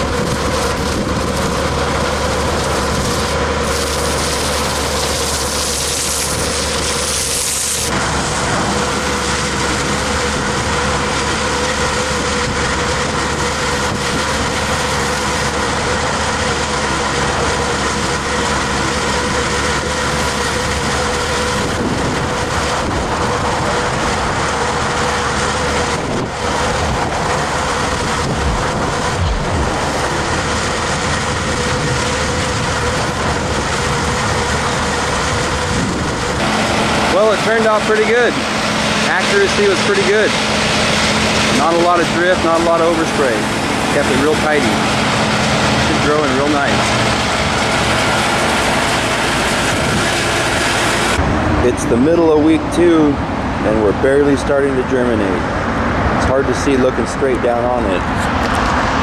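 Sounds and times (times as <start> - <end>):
slurry spraying from hose: 0.0 - 51.2
engine and pump droning: 0.0 - 59.0.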